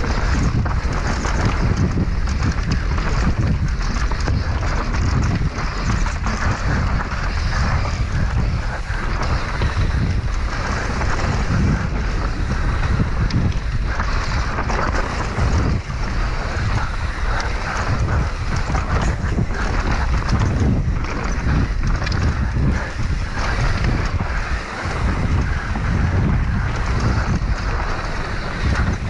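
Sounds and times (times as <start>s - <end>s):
bike rattling: 0.0s - 29.0s
bike tyres rumbling on dirt: 0.0s - 29.0s
wind buffeting microphone: 0.0s - 29.0s.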